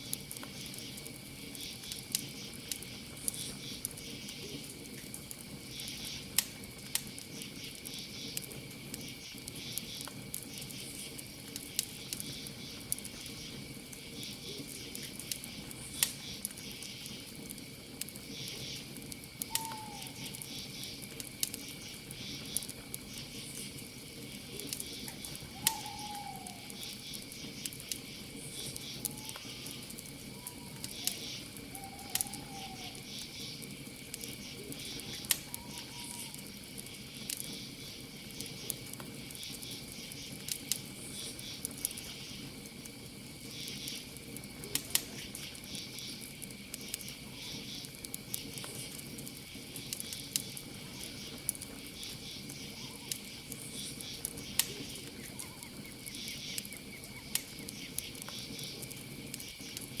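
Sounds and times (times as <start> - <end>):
campfire crackling: 0.0 - 60.0
cricket trill: 0.0 - 60.0.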